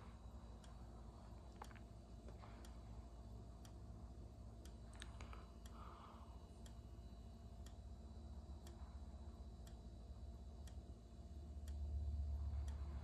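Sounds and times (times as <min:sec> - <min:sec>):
faint sharp ticking: 0:00.0 - 0:13.0
low hum: 0:00.0 - 0:13.0.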